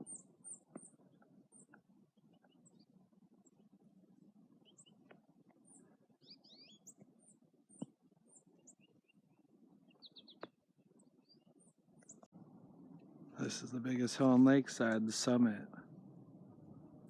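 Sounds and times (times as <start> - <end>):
low steady rustle: 0.0 - 17.0
small birds chirping: 0.0 - 17.0.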